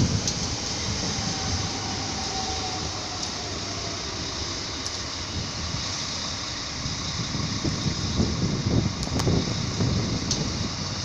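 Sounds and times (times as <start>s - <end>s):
train rumble and hiss: 0.0s - 11.0s
wind buffeting microphone: 0.0s - 11.0s.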